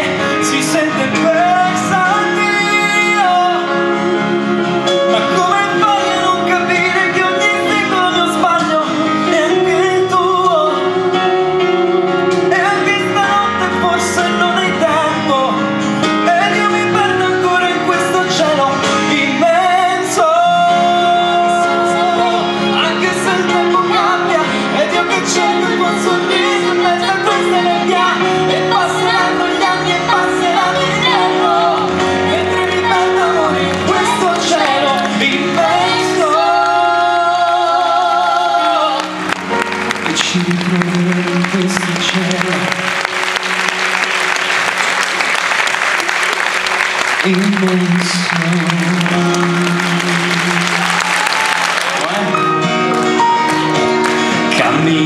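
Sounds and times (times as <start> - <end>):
acoustic band music: 0.0 - 55.0.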